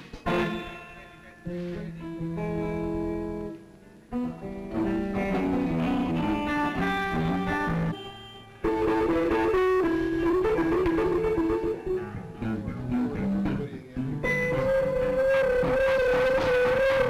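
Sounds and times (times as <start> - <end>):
electric guitar rock music: 0.0 - 17.0.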